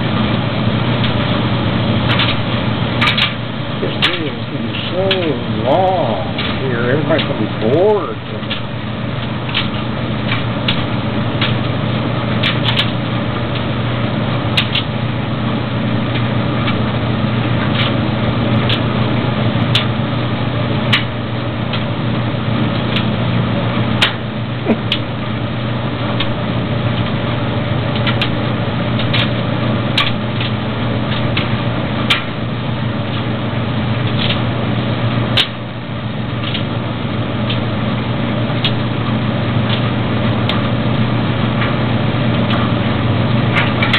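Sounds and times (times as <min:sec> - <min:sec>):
dryer motor and drum hum: 0:00.0 - 0:43.9.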